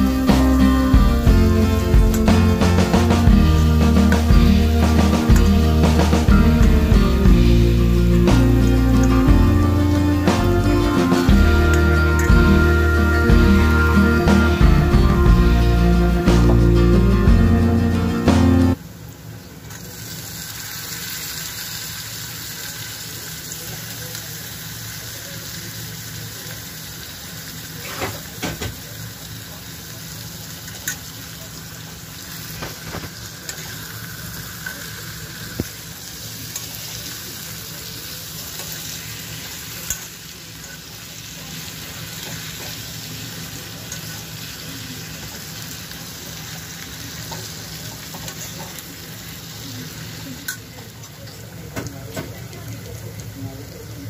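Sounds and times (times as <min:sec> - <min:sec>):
vegetables sizzling in oil: 0:00.0 - 0:16.8, 0:17.7 - 0:54.0.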